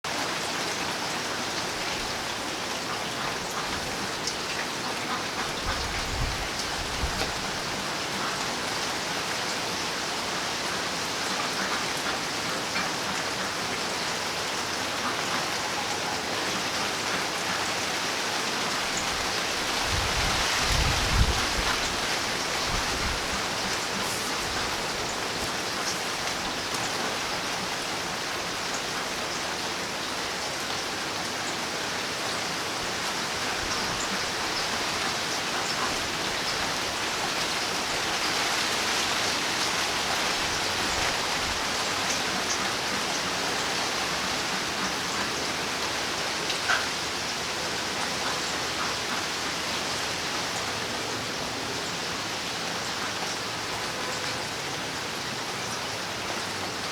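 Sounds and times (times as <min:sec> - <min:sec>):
steady rain hiss: 0:00.1 - 0:56.9.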